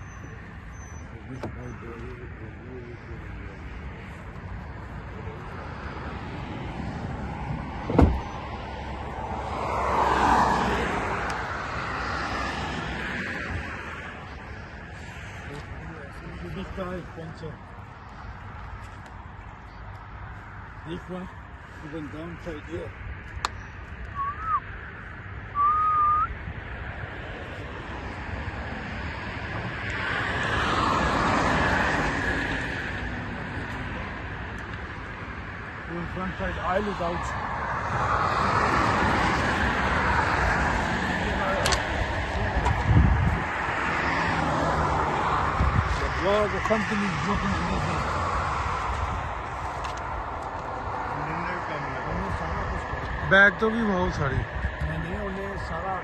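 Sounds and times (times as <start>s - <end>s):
vehicle passing on road: 0.0s - 56.0s.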